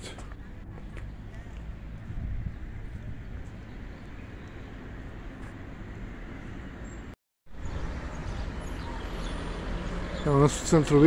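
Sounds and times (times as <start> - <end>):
low town rumble: 0.0 - 11.0.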